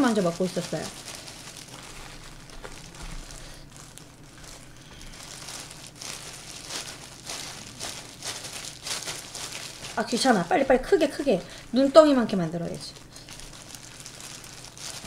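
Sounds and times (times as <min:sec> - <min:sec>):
plastic gloves crinkling: 0:00.0 - 0:15.0.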